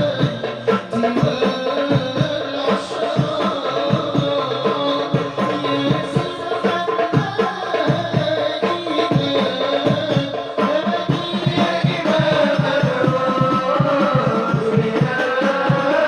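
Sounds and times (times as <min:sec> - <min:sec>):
group of voices singing: 0:00.0 - 0:16.0
hand-struck frame drums: 0:00.0 - 0:16.0.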